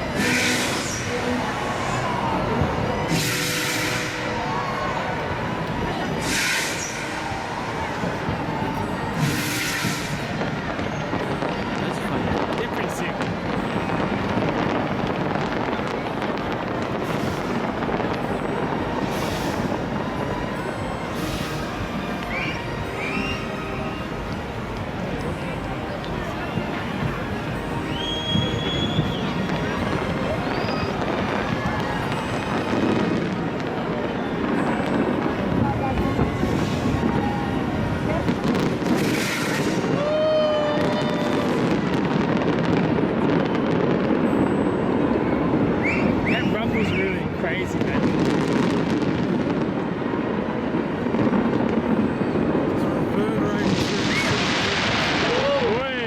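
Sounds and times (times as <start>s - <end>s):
crowd din: 0.0s - 56.0s
fireworks bangs and crackle: 0.0s - 56.0s
hissing firework crackles: 0.0s - 56.0s.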